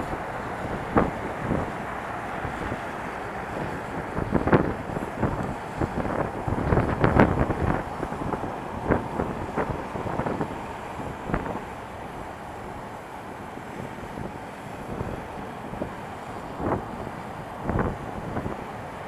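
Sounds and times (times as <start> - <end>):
low rumble of traffic: 0.0 - 19.0
wind buffeting microphone: 0.0 - 19.0.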